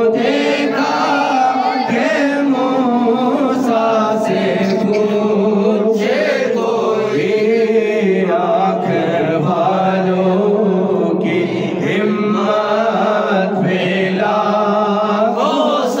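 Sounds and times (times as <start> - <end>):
voices chanting devotional song: 0.0 - 16.0.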